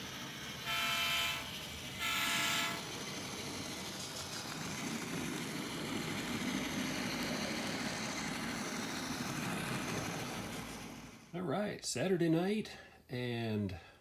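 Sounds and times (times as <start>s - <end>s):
model train engine rumble: 0.0s - 11.4s.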